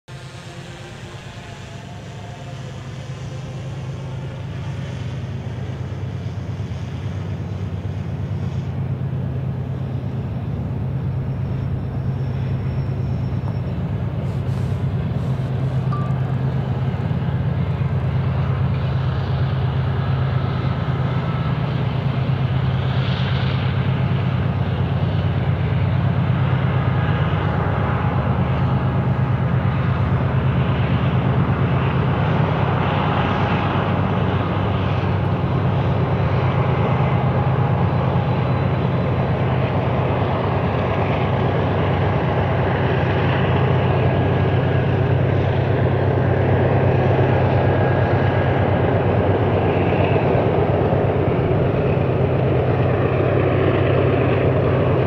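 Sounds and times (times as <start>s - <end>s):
low mechanical hum: 0.2s - 55.0s.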